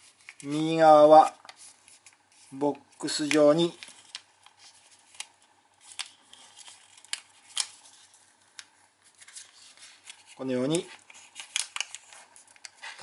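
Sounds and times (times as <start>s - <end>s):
paper rustling and crinkling: 0.0s - 13.0s
paper crackling sharply: 0.3s - 13.0s.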